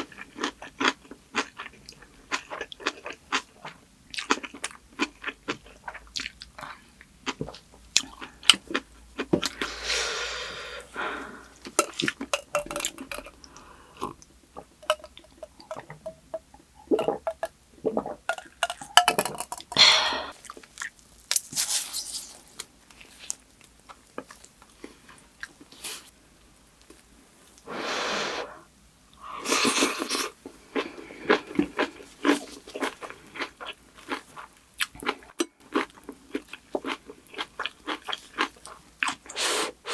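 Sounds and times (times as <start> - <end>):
person chewing and crunching food: 0.0 - 26.1, 29.5 - 39.9.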